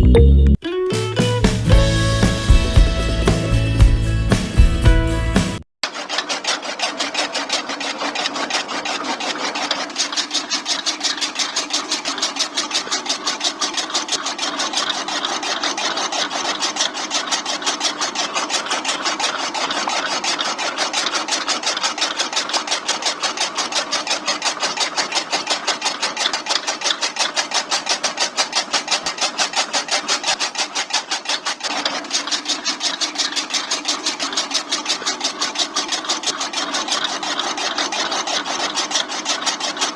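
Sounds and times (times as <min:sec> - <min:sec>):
small electric motor rattling: 0:01.5 - 0:39.9.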